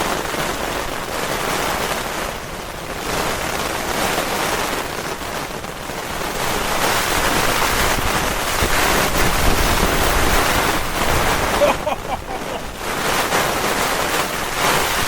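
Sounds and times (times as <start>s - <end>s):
heavy rain on a tent: 0.0s - 15.0s
strong gusting wind: 1.4s - 15.0s.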